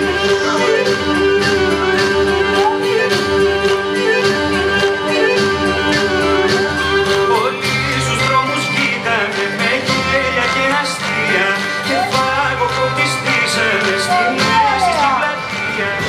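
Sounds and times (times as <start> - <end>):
instrumental tune with sliding notes: 0.0 - 16.0.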